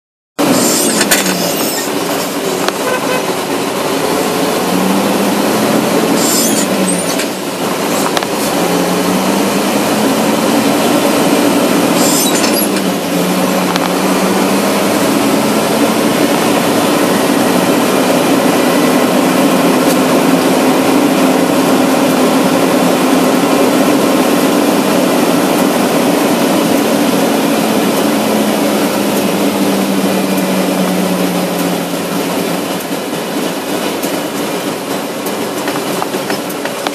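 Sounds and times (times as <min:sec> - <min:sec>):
car engine hum: 0:00.4 - 0:36.9
road noise: 0:00.4 - 0:36.9.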